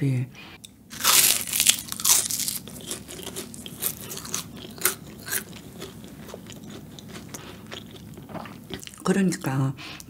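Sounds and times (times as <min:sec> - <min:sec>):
person chewing crunchy pastry: 0:00.6 - 0:09.5.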